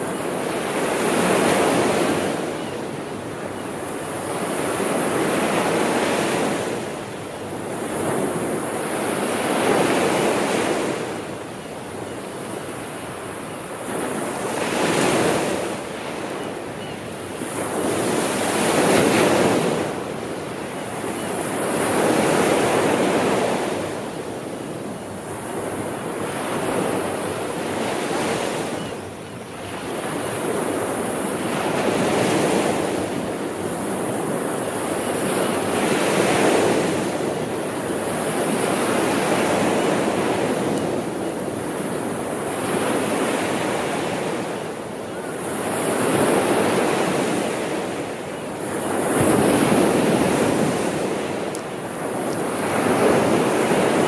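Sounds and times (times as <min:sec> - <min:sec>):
sea waves breaking on shore: 0:00.0 - 0:28.9, 0:29.6 - 0:54.0.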